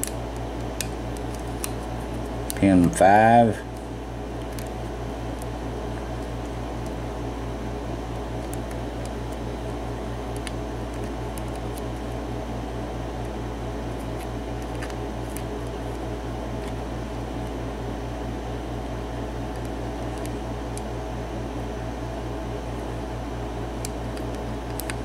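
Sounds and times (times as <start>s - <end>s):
low pulsing machine hum: 0.0s - 25.0s.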